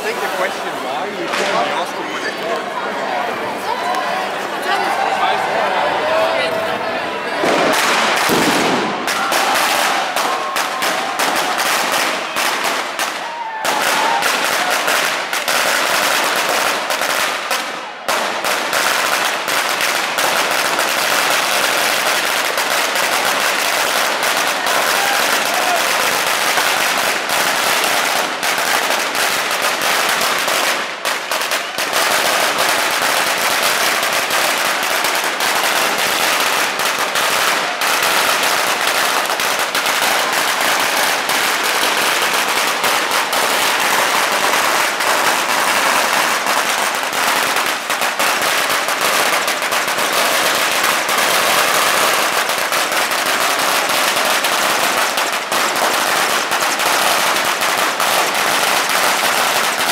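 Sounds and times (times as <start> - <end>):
firecrackers cracking and banging: 0.0 - 2.8, 7.4 - 59.9.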